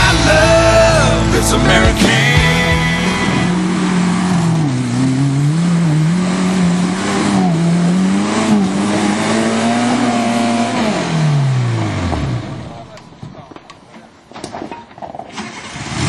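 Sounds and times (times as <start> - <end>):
engine revving under load: 0.0 - 12.9, 15.3 - 16.0.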